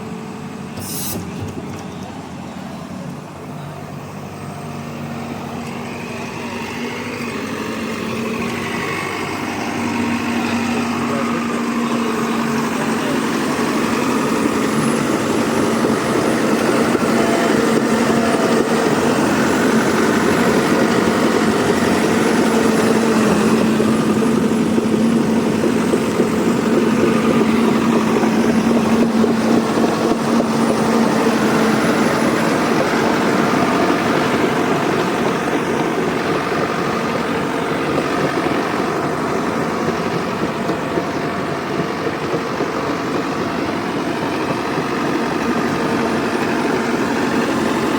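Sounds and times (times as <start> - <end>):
heavy machine engine running: 0.0 - 47.9.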